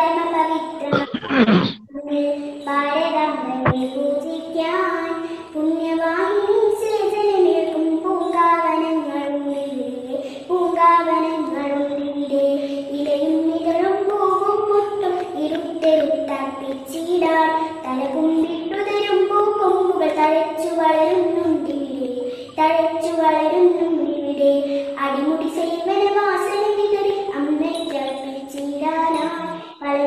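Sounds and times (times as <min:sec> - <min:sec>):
girl singing: 0:00.0 - 0:30.0.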